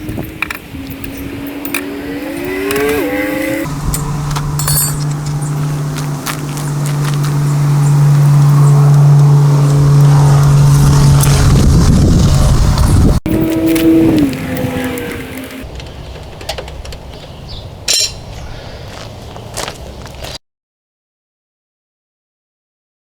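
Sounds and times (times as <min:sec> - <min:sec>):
engine humming: 0:00.0 - 0:20.4
engine whine: 0:00.0 - 0:20.4.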